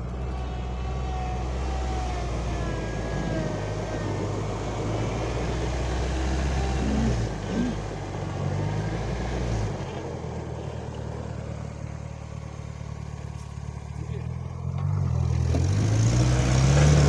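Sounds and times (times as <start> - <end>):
small tractor engine hum: 0.0 - 17.0.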